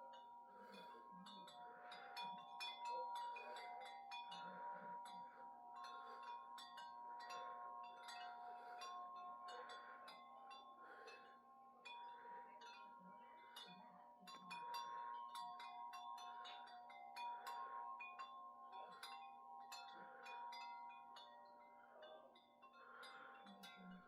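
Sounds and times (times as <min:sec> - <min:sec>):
wind chimes clinking: 0:00.0 - 0:24.0.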